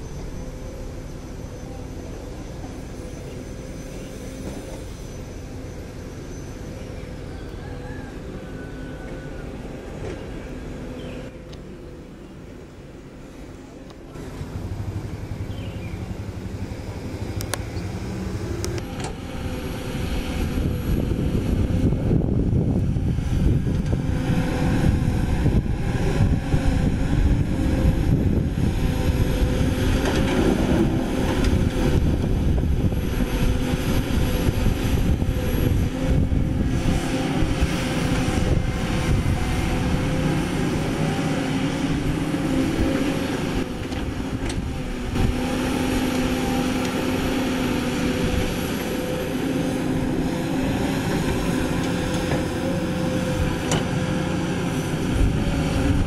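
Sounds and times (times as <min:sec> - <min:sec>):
excavator diesel engine droning: 0:00.0 - 0:56.0.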